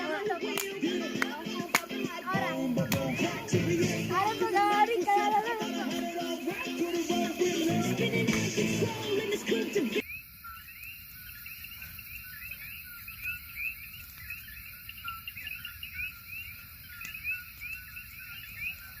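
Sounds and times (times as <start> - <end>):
frogs calling: 0.0 - 8.0, 9.1 - 19.0
high-pitched insect hum: 0.0 - 19.0.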